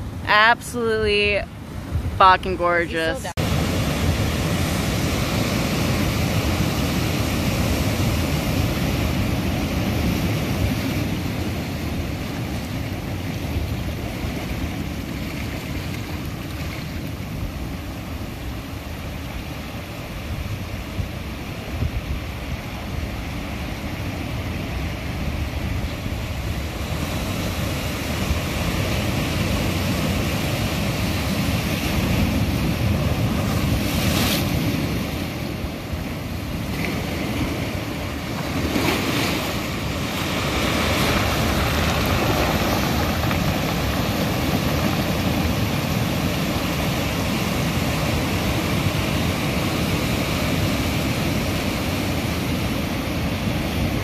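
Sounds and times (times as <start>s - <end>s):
wind rumbling on microphone: 0.0s - 54.0s
surf breaking on rocks: 2.4s - 54.0s.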